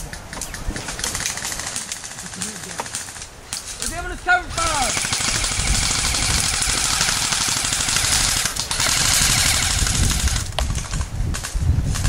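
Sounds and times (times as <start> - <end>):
airsoft guns firing rapidly: 0.9 - 12.0.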